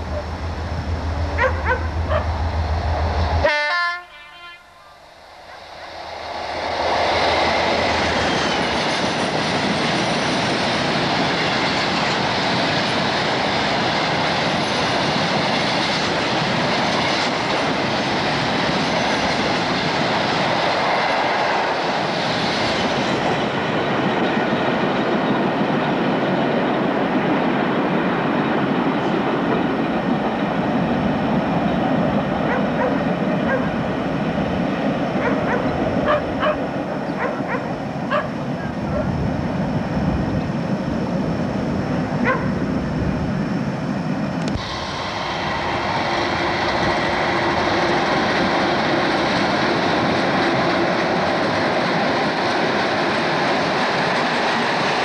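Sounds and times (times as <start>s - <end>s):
train wagon wheels on rail: 0.0s - 55.0s.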